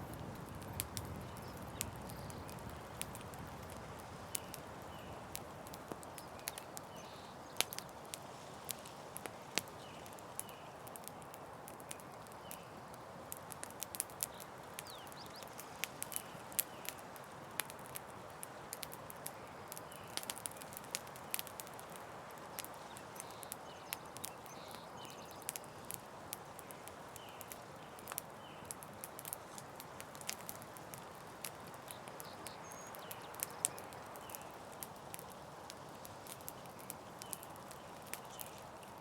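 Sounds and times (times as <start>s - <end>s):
campfire wood popping: 0.0s - 39.0s
soft fire hiss: 0.0s - 39.0s.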